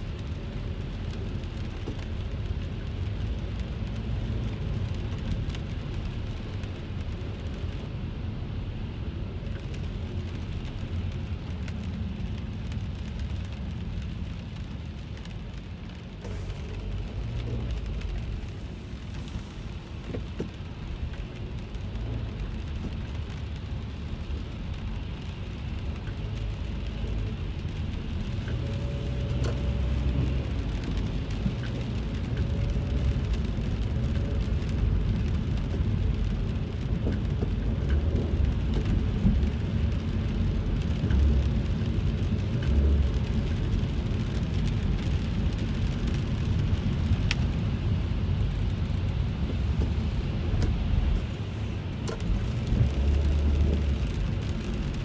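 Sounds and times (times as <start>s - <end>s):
car driving rumble: 0.0s - 55.0s
rain on car roof: 0.0s - 55.0s.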